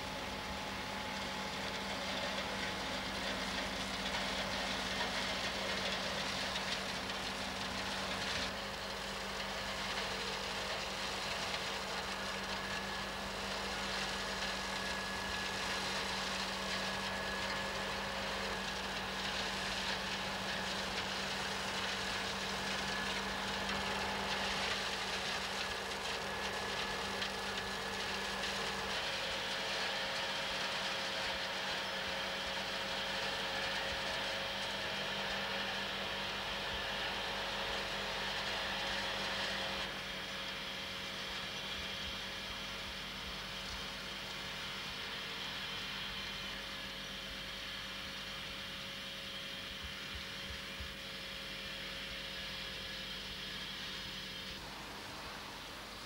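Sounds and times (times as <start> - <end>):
tractor running: 0.0 - 56.0.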